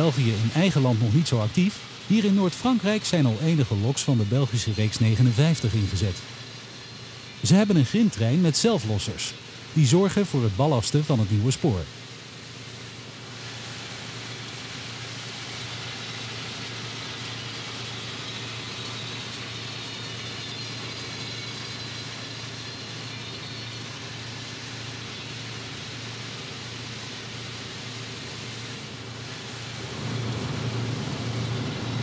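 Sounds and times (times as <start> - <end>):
diesel locomotive engine hum: 0.0 - 32.0
even hiss: 0.0 - 32.0.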